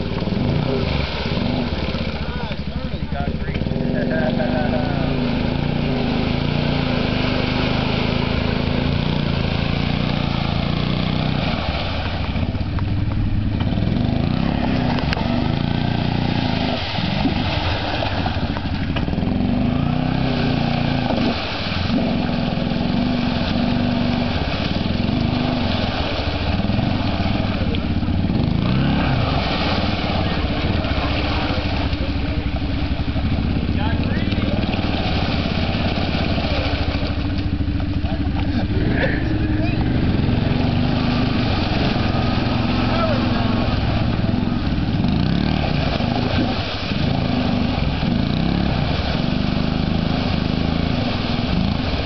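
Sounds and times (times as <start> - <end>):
quad churning through mud: 0.0 - 52.0
quad engine revving: 0.0 - 52.0.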